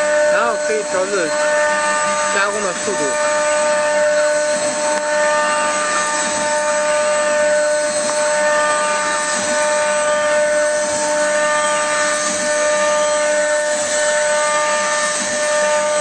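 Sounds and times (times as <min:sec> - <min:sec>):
cnc router whining: 0:00.0 - 0:16.0.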